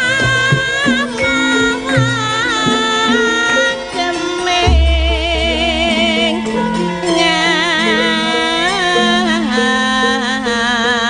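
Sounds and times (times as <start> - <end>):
gamelan accompaniment: 0.0 - 11.0
woman singing ornamented vocal line: 0.0 - 11.0.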